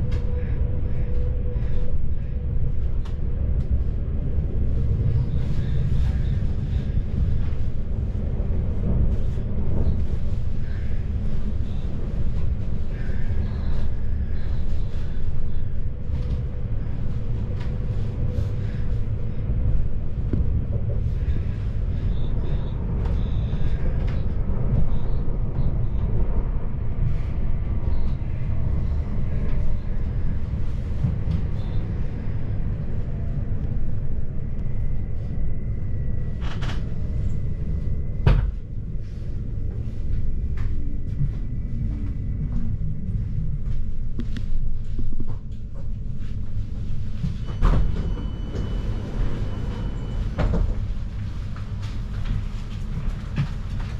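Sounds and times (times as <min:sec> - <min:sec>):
faint steady whine: 0:00.0 - 0:53.9
train wheels rumbling on rails: 0:00.0 - 0:53.9.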